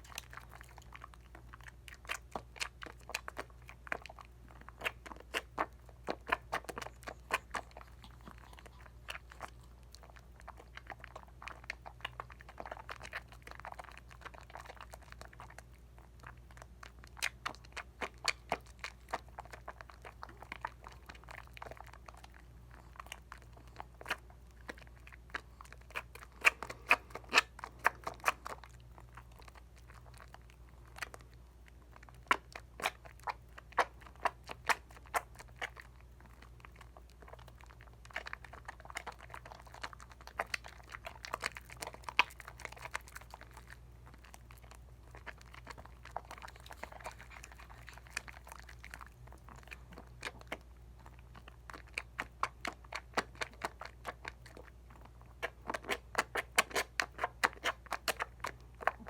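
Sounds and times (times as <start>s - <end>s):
steady low hum: 0.0s - 56.2s
soap lather squishing by hand: 0.0s - 59.0s.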